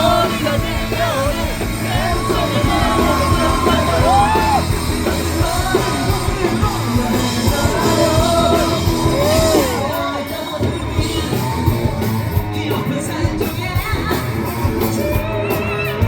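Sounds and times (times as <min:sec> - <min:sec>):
person singing and yelling: 0:00.0 - 0:16.0
rock band playing: 0:00.0 - 0:16.0.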